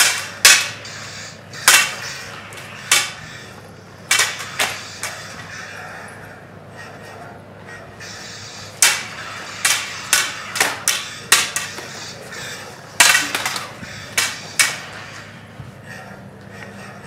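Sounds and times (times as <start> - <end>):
plastic lightsaber blades clashing: 0.0 - 6.2, 7.8 - 15.6.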